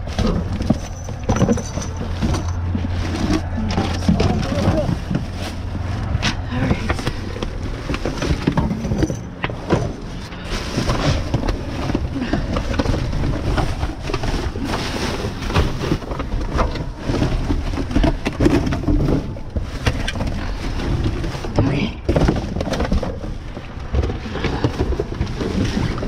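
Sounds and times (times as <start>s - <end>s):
objects knocking and clattering: 0.0s - 26.0s
steady low rumble: 0.0s - 26.0s.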